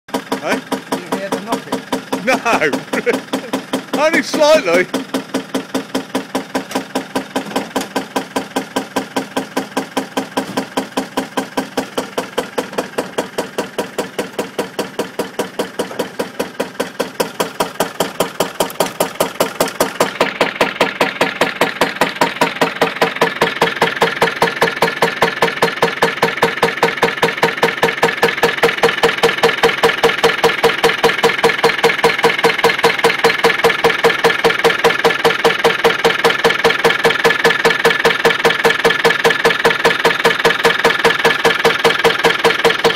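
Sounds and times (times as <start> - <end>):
diesel engine idling with knocking: 0.1 - 42.9.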